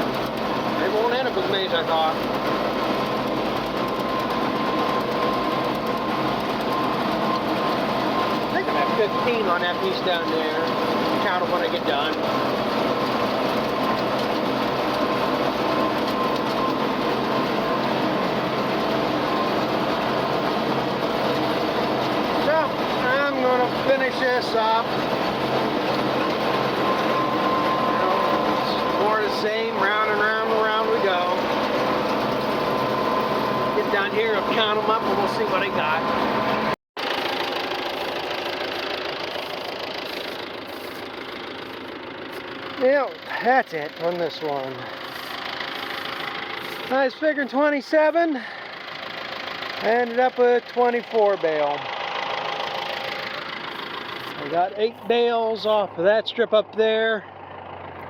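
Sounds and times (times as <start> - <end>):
tractor and baler droning: 0.0 - 58.0.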